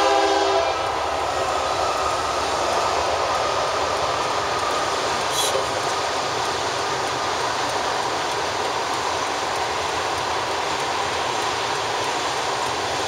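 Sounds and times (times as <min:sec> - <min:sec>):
train cars rattling: 0:00.0 - 0:13.0
train wheels on rails: 0:00.0 - 0:13.0.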